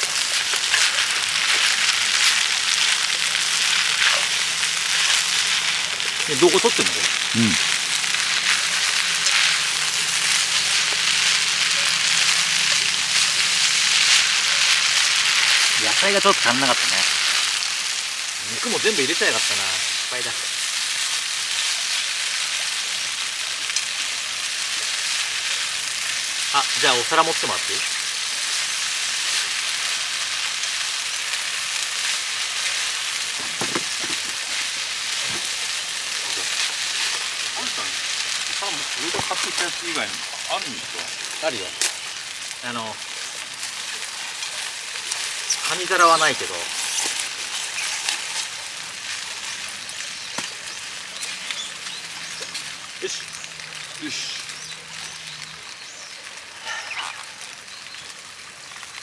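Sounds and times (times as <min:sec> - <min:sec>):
meat and vegetables sizzling: 0:00.0 - 0:59.0.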